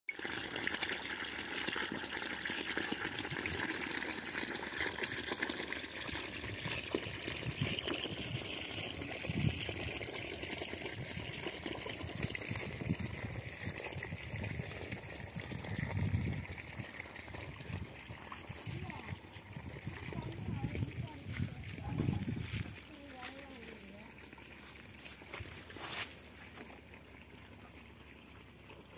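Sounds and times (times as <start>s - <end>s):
water gushing from hose: 0.1s - 28.9s
water trickling along channel: 0.1s - 28.9s.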